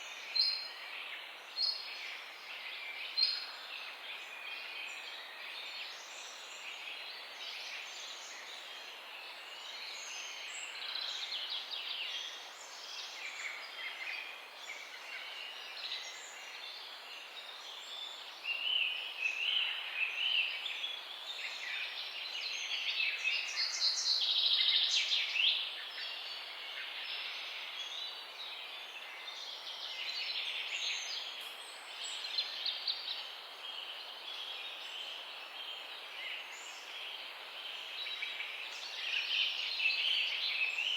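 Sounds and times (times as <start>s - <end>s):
faint steady hiss: 0.0s - 40.9s
songbirds chirping and trilling: 0.0s - 40.9s.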